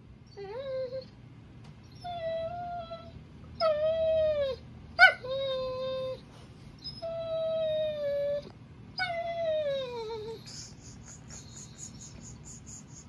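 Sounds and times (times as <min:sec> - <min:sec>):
dog whimpering: 0:00.3 - 0:01.2, 0:01.9 - 0:06.2, 0:06.8 - 0:12.9
dog whining: 0:00.3 - 0:01.2, 0:01.8 - 0:12.4.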